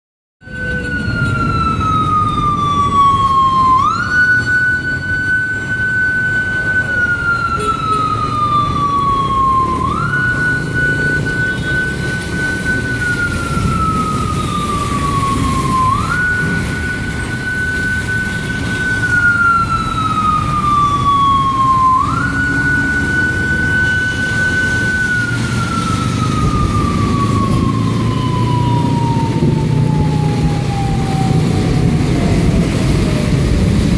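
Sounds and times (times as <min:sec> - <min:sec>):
siren wailing: 0:00.4 - 0:33.9
traffic on wet roads: 0:00.4 - 0:33.9.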